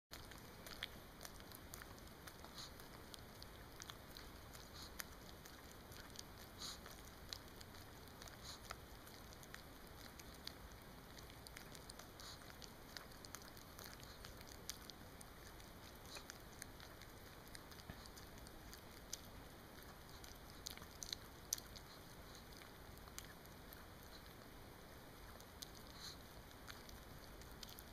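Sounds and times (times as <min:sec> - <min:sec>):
dog licking and lip smacking: 0:00.1 - 0:27.9.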